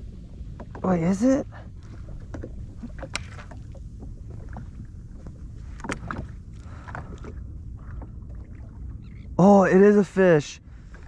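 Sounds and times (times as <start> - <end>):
low rumble of water and wind: 0.0 - 11.0.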